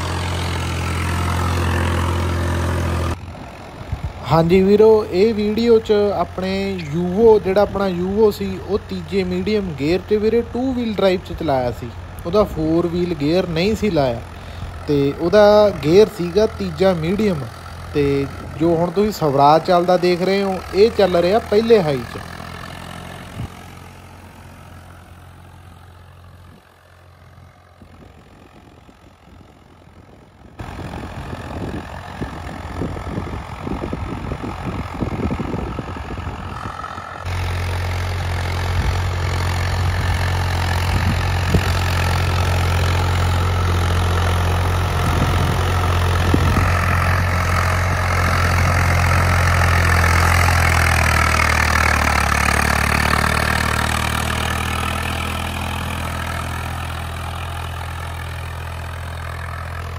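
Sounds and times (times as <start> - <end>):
tractor diesel engine drone: 0.0 - 59.9.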